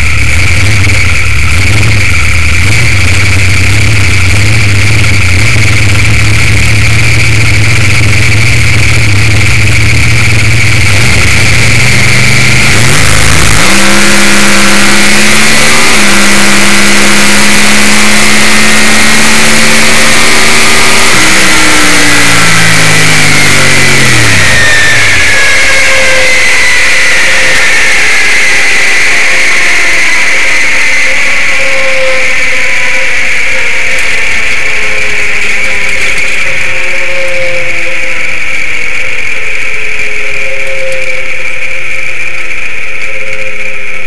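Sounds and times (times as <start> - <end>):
drag-race engine revving: 0.0 - 44.0.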